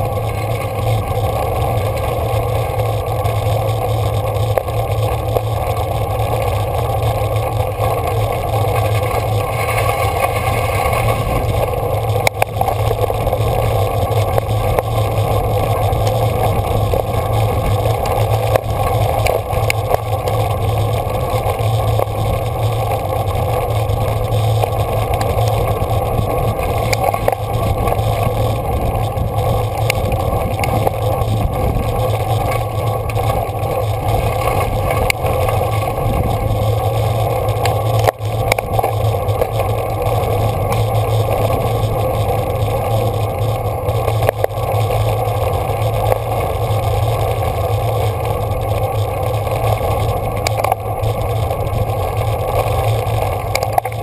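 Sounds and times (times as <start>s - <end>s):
bicycle tyre noise: 0.0s - 54.0s
wind noise: 0.0s - 54.0s.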